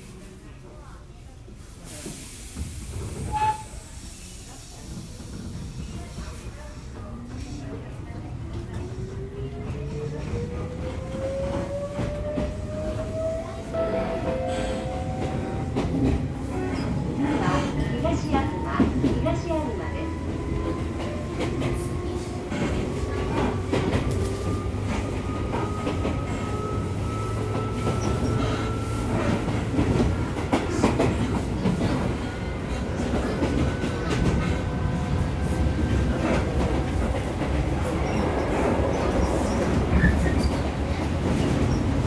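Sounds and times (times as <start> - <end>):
low train rumble: 0.0 - 42.0.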